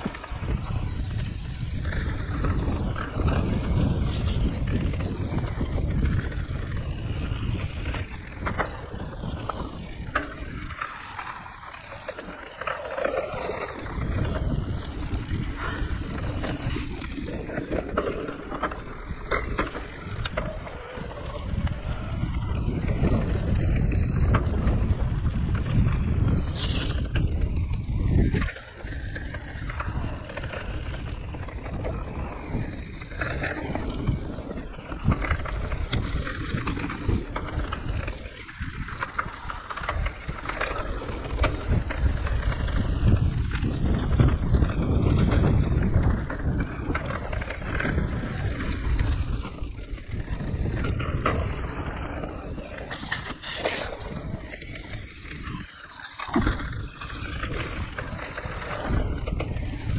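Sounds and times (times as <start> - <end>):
bike rattling: 0.0 - 59.9
tyres rolling over dirt: 0.0 - 59.9
wind rushing over microphone: 0.0 - 59.9.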